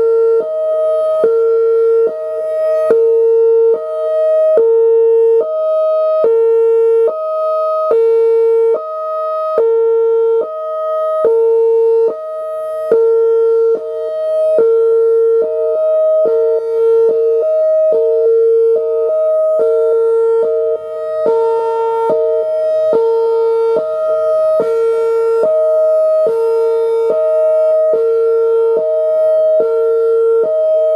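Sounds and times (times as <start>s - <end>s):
two-tone warning siren: 0.0s - 30.9s.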